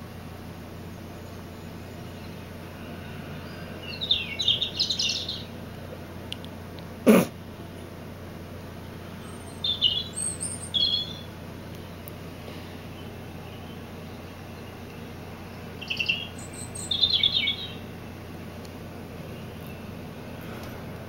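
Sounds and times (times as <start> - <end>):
recorded bird chirping: 0.1 - 21.0.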